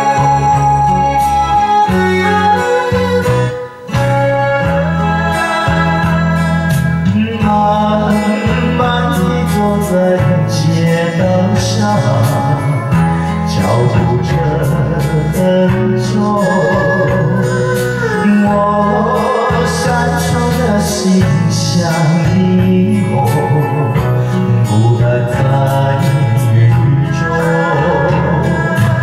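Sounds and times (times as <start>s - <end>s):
karaoke backing music: 0.0s - 29.0s
man singing into microphone: 0.0s - 29.0s.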